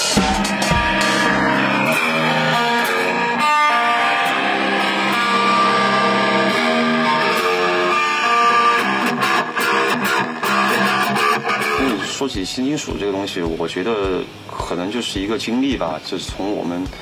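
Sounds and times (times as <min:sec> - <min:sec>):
electric guitar chords and notes: 0:00.0 - 0:17.0.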